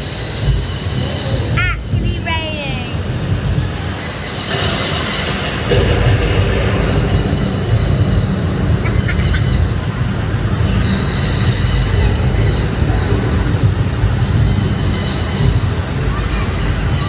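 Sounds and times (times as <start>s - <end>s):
rushing falling water: 0.0s - 17.0s.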